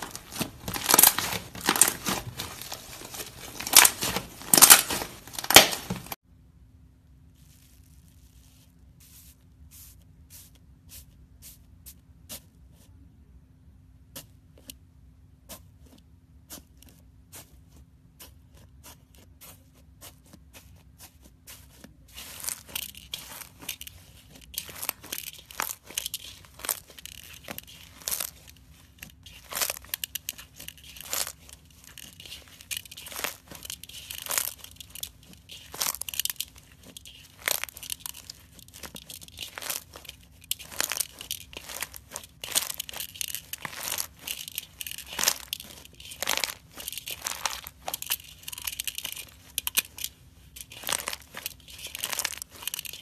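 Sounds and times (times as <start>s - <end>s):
dried slime crust crackling: 0.0s - 6.2s, 7.3s - 9.9s, 17.3s - 53.0s.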